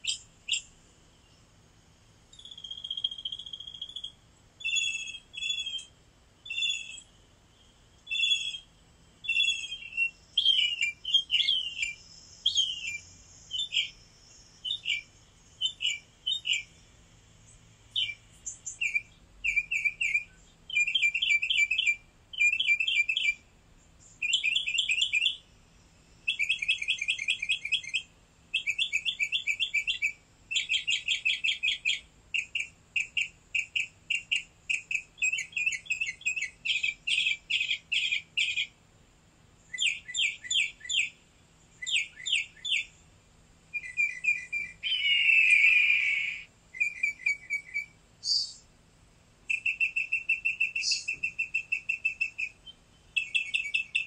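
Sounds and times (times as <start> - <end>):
birds chirping: 0.0 - 1.7, 2.3 - 38.8, 39.5 - 43.1, 43.7 - 48.7, 49.4 - 54.0
rapid trilled bird phrases: 0.0 - 38.8, 39.5 - 48.7, 49.4 - 54.0.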